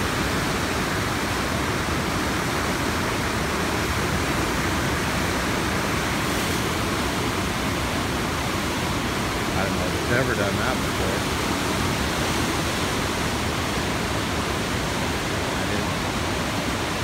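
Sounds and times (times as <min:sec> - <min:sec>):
water rushing over dam: 0:00.0 - 0:17.0.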